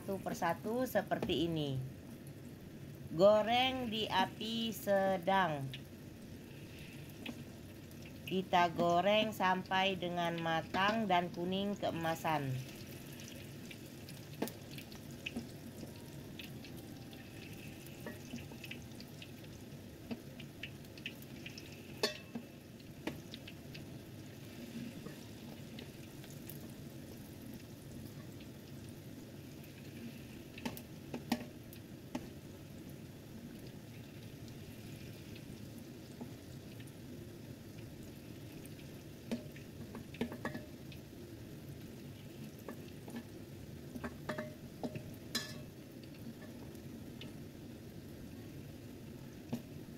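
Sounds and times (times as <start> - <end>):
deep-frying sizzle in oil: 0.0 - 49.9.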